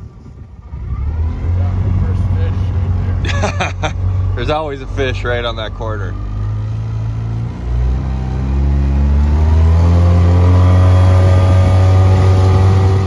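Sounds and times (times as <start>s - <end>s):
outboard motor running: 0.3s - 13.0s.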